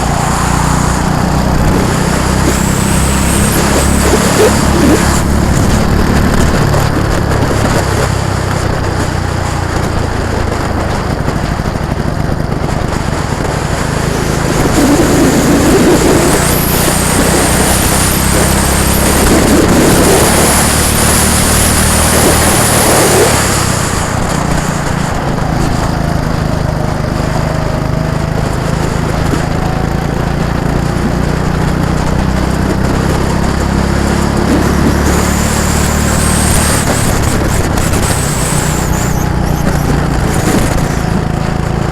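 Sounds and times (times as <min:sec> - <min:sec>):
go-kart engines passing: 0:00.0 - 0:41.9.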